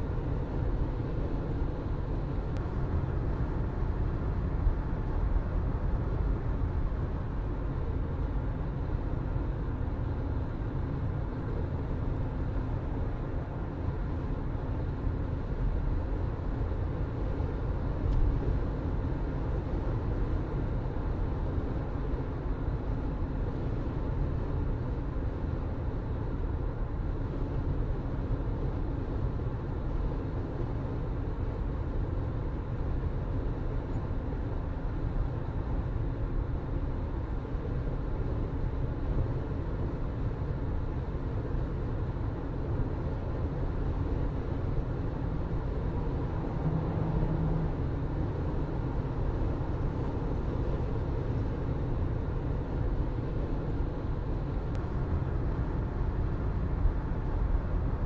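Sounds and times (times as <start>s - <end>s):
car engine hum: 0.0s - 58.0s
road and tyre rumble: 0.0s - 58.0s.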